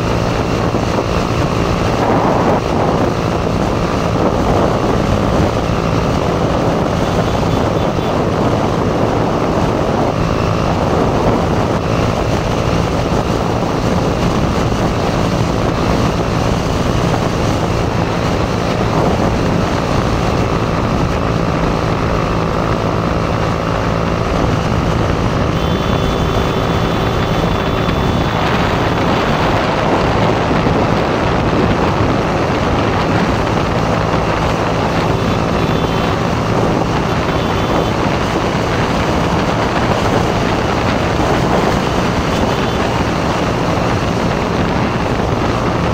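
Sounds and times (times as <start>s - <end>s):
motorcycle engine running: 0.0s - 45.9s
wind noise: 0.0s - 45.9s.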